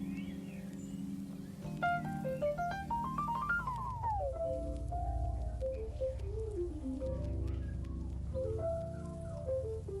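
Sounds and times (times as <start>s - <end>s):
soft melody over low notes: 0.0s - 10.0s.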